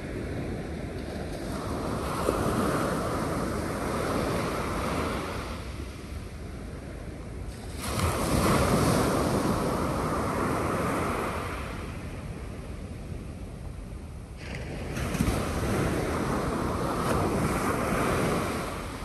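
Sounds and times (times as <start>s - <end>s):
waves breaking on shore: 0.0s - 13.2s, 14.3s - 19.0s.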